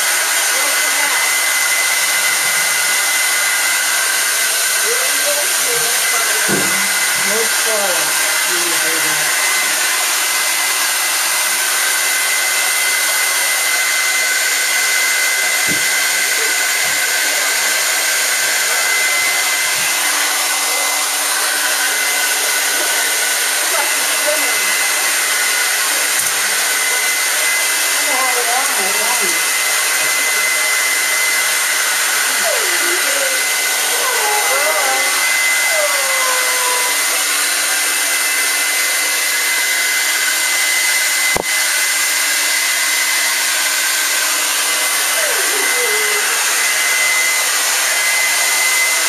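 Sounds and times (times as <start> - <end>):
hair dryer running: 0.0 - 49.0.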